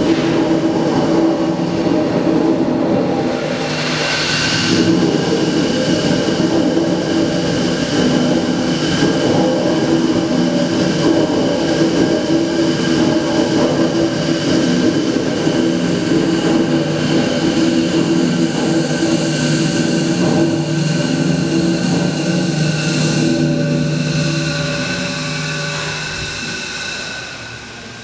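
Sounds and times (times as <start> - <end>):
steam engine running: 0.0 - 28.0.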